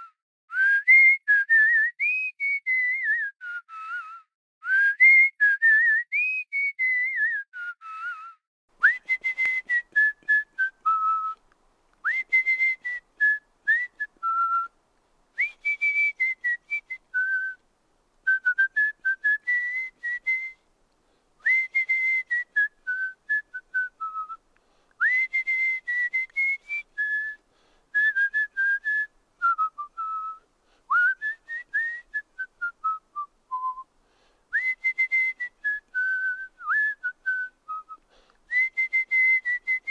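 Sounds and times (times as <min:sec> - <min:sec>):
person whistling a tune: 0:00.0 - 0:11.4, 0:12.0 - 0:14.7, 0:15.4 - 0:17.6, 0:18.3 - 0:20.6, 0:21.4 - 0:24.4, 0:25.0 - 0:33.9, 0:34.5 - 0:39.9.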